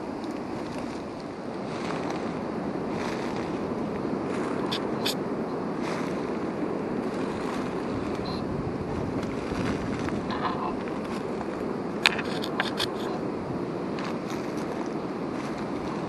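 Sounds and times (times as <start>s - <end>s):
gusting wind on microphone: 0.0s - 16.0s.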